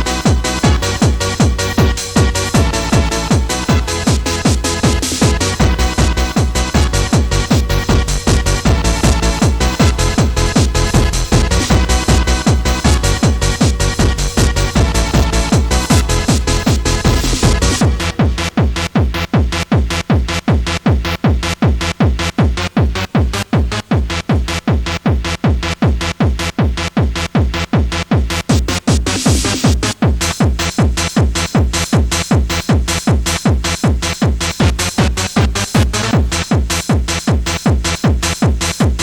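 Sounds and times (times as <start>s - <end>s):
fast hardcore techno: 0.0s - 39.0s
pounding kick drum: 0.0s - 39.0s.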